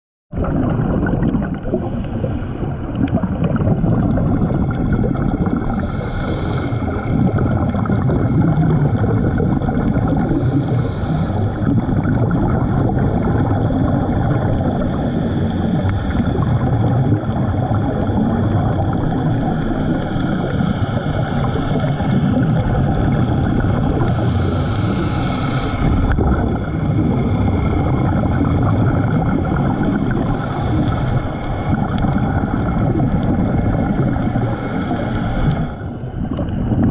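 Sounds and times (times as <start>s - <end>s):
air bubbles: 0.3s - 36.9s
muffled underwater rumble: 0.3s - 36.9s
scuba regulator breathing: 1.5s - 36.9s.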